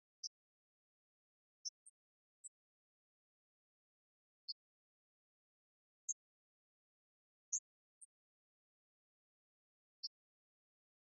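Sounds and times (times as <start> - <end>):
faint high-pitched chirps: 0.0 - 11.0.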